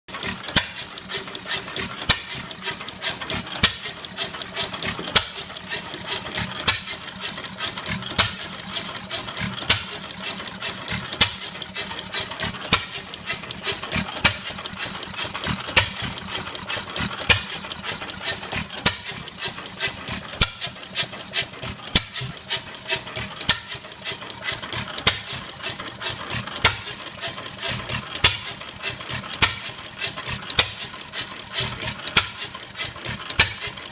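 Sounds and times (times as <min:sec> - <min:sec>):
engine clicking while coasting: 0:00.1 - 0:33.9.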